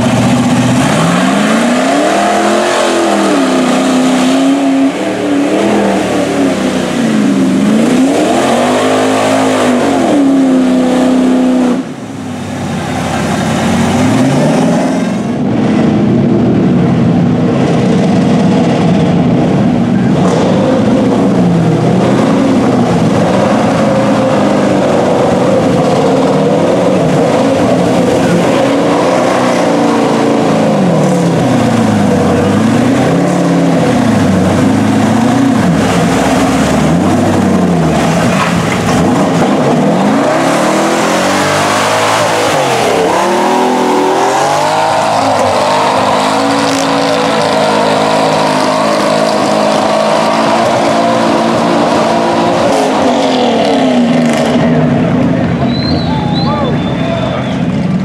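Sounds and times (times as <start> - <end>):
truck engine revving hard: 0.0 - 58.0.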